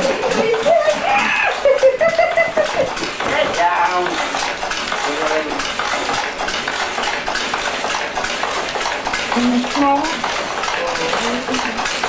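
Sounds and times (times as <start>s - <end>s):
loom clattering: 0.0s - 12.0s.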